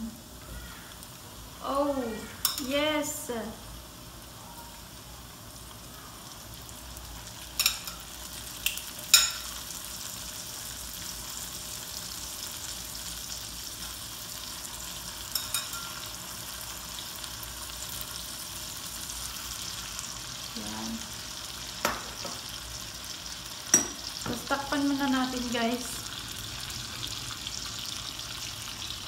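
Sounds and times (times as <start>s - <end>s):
chicken sizzling in a pan: 0.0s - 29.0s.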